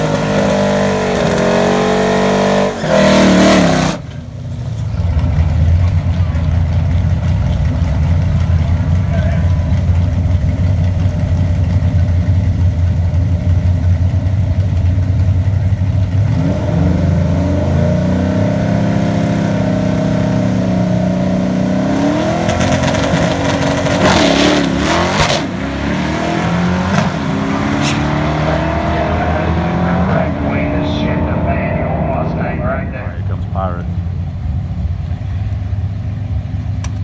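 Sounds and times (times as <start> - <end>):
drag car engine idling: 0.0 - 27.6, 28.8 - 37.0
drag car accelerating hard: 0.0 - 37.0.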